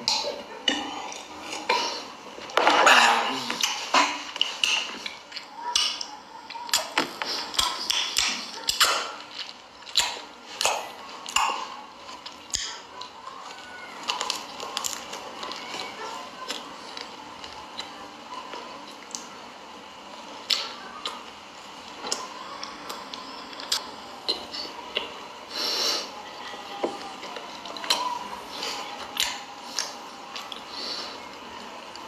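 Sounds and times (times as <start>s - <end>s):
person eating: 0.0s - 32.0s.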